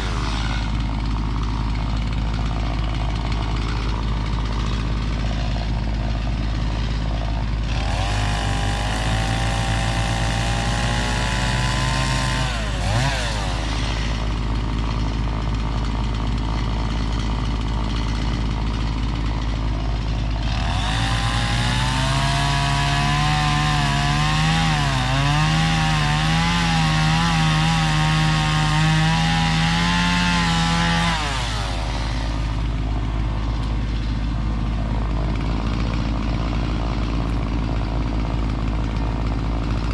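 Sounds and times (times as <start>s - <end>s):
chainsaw cutting into wood: 0.0s - 39.9s
chainsaw idling: 0.0s - 39.9s.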